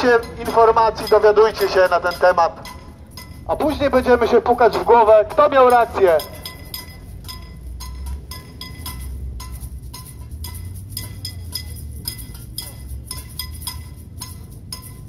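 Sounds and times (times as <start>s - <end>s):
bells ringing: 0.0s - 15.0s
metal clanging: 0.0s - 15.0s
pots being beaten: 0.0s - 15.0s
steady low rumble: 0.0s - 15.0s.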